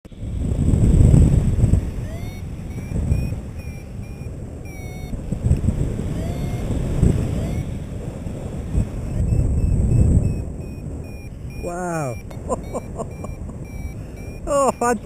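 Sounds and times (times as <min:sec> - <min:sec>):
wind buffeting microphone: 0:00.1 - 0:15.0
faint high-pitched beeps: 0:01.8 - 0:07.8, 0:09.0 - 0:15.0.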